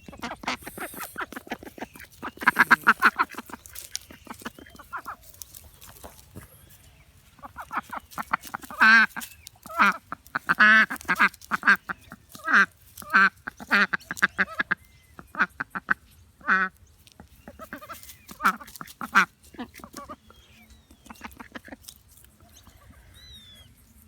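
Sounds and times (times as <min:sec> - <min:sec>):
ducks quacking: 0:00.0 - 0:06.6, 0:07.2 - 0:22.0.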